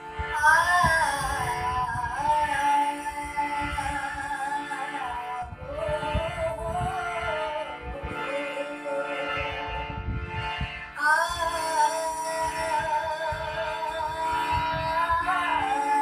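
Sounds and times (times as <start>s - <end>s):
harmonium: 0.0s - 16.0s.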